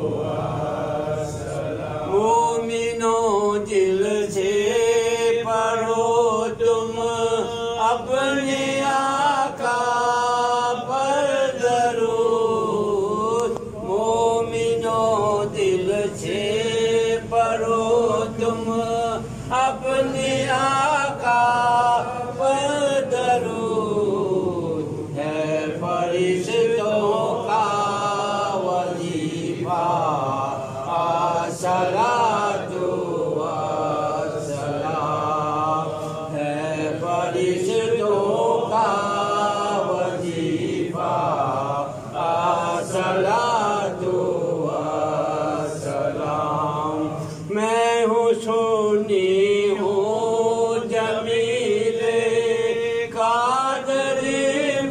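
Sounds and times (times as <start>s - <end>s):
man chanting into a microphone: 0.0s - 54.9s.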